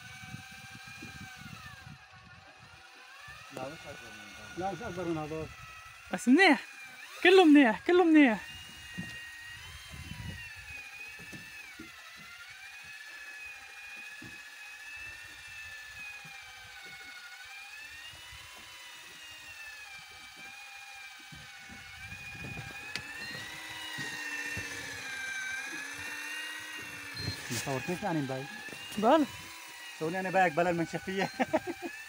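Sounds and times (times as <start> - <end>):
electric fishing reel motor whining: 0.0 - 32.0.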